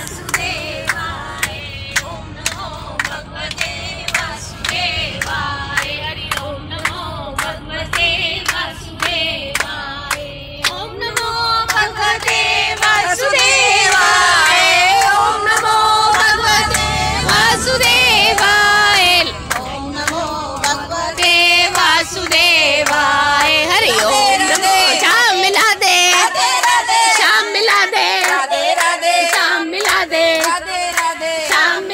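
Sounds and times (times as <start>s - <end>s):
people clapping hands: 0.0s - 31.9s
woman singing into microphone: 5.3s - 31.9s.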